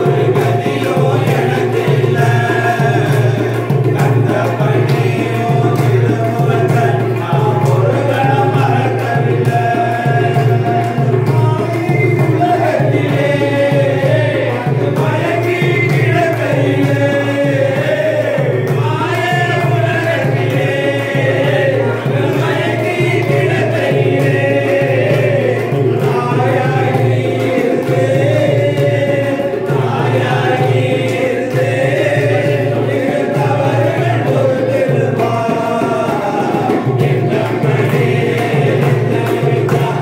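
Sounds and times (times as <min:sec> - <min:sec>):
person singing chant-like melody: 0:00.0 - 0:40.0.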